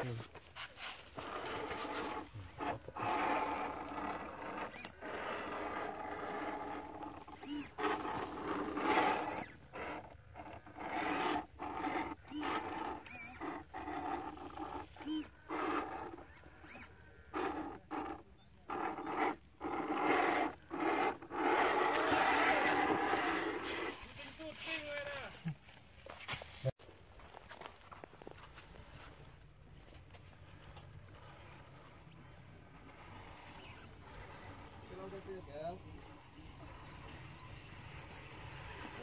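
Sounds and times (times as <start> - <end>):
electric motor whining: 1.1 - 24.2, 30.7 - 39.0.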